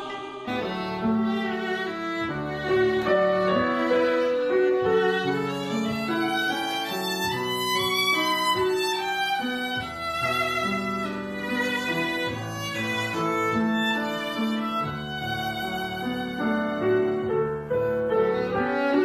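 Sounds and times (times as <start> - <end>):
bowed string instruments melody: 0.0 - 19.0.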